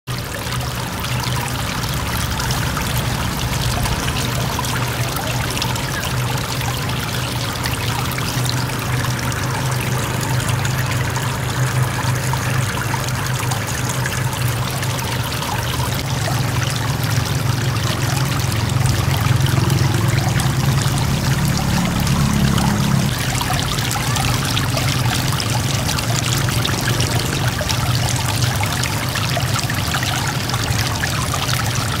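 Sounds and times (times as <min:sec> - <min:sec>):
waterfall splashing into pool: 0:00.1 - 0:32.0.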